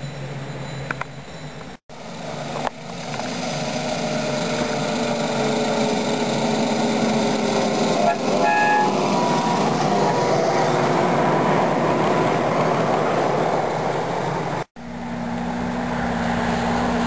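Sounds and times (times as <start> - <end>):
ride-on train rumbling on track: 0.0 - 17.0.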